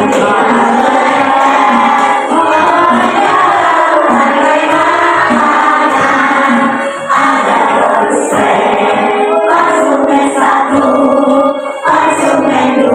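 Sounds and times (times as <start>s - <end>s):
children singing in unison: 0.0s - 12.9s.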